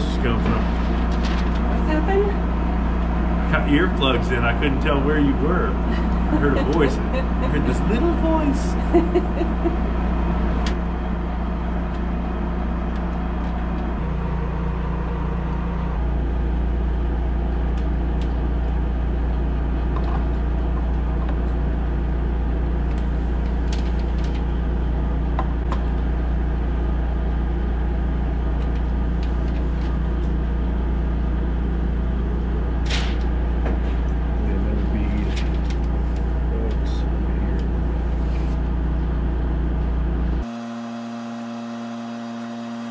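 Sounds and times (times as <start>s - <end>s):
engine droning: 0.0s - 42.9s.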